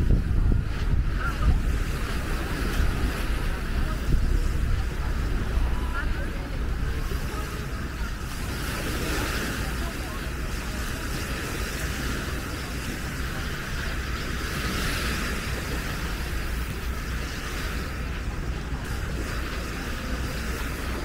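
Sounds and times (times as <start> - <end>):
sea waves on beach: 0.0 - 21.0
wind rumbling on microphone: 0.0 - 21.0.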